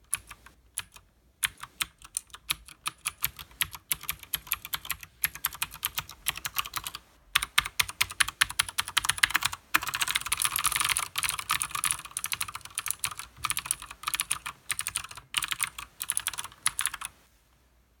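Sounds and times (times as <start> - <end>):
clicky mechanical keyboard typing: 0.0 - 17.1.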